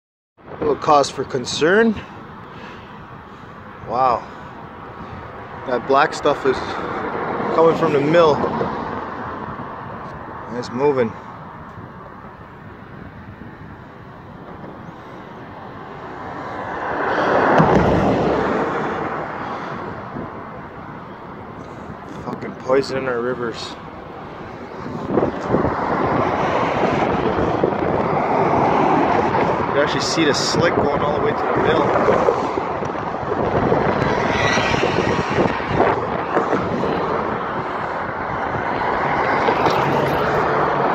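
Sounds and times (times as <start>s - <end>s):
wind buffeting microphone: 0.4s - 40.9s
vehicle passing: 1.9s - 40.9s.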